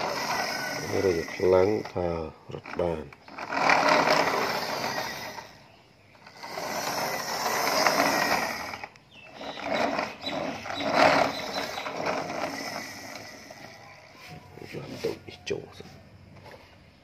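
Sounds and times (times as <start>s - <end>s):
toy truck wheels whirring: 0.0s - 15.3s.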